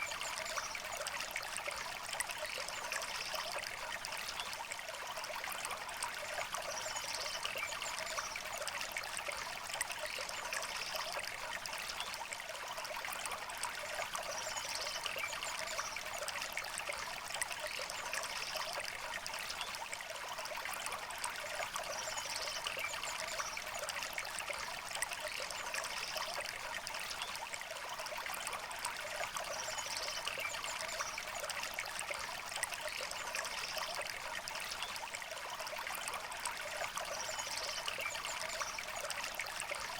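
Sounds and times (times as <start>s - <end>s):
river water trickling over stones: 0.0s - 39.9s.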